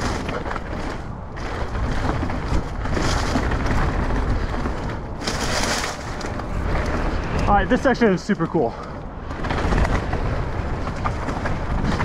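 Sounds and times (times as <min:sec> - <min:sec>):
bike tyres on loose dirt: 0:00.0 - 0:12.0
wind buffeting microphone: 0:00.0 - 0:12.0.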